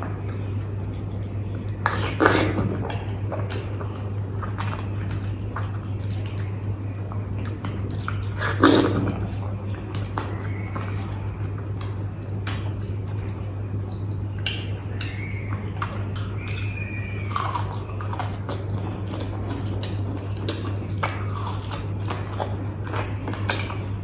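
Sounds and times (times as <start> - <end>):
close chewing and wet mouth sounds: 0.0 - 24.0
steady low hum: 0.0 - 24.0.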